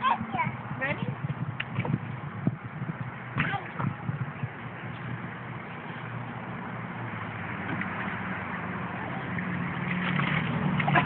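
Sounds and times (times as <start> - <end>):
engine running: 1.8 - 11.0.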